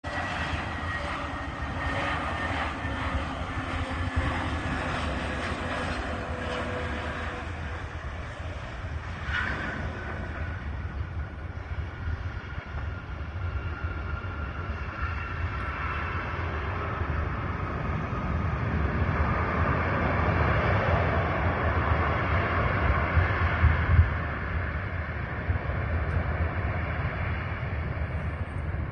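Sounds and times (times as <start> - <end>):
airplane engines rumbling and whining: 0.0 - 28.9.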